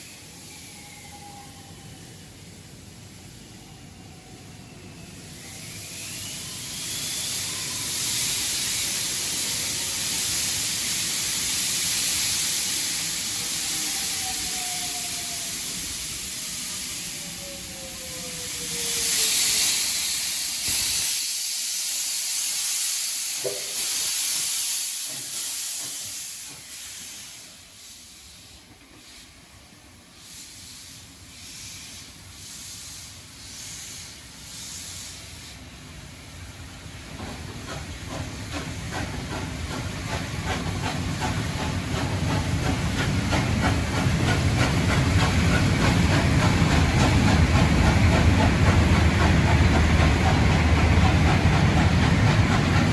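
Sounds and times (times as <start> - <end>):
steam locomotive hissing: 0.0 - 52.9.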